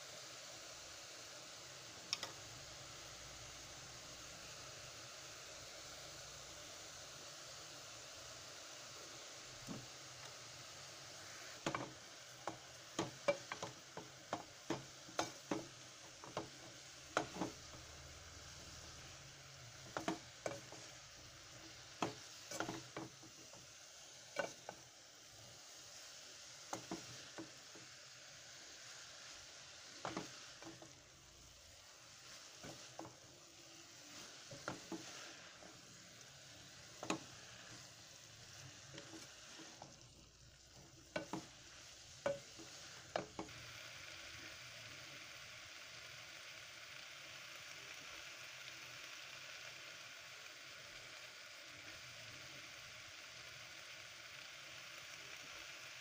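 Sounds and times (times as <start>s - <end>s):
vegetables sizzling in a pot: 0.0s - 56.0s.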